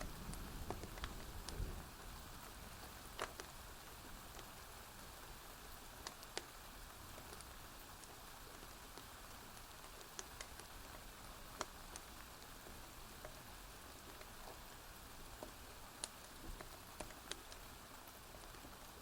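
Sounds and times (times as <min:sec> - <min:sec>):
soft rain falling: 0:00.0 - 0:19.0.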